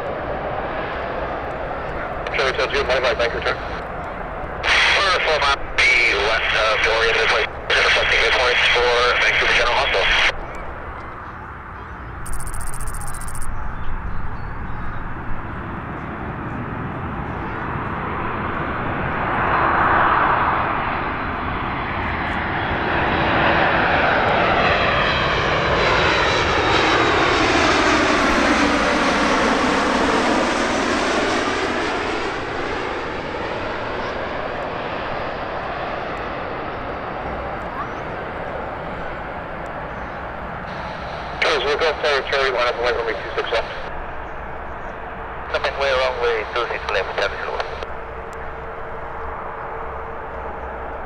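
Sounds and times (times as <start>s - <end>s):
jet airliner flying overhead: 0.0s - 51.0s.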